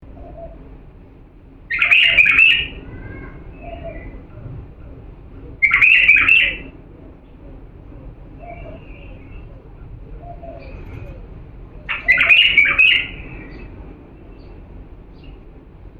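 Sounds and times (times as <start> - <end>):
bird singing fluty notes: 1.7 - 15.4.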